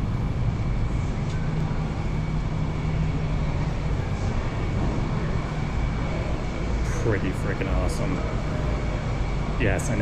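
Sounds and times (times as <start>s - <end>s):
faint high whine: 0.0s - 10.0s
low mechanical hum of machinery: 0.0s - 10.0s.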